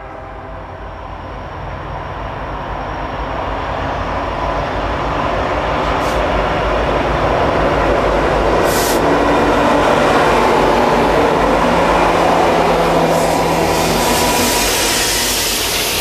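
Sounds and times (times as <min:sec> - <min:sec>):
locomotive engine drone: 0:00.0 - 0:16.0
rolling rail noise: 0:00.0 - 0:16.0.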